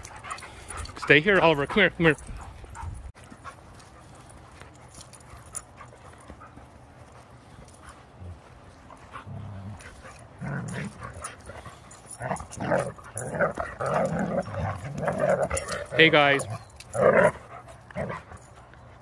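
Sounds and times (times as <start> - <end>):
dogs play-wrestling: 0.0 - 19.0.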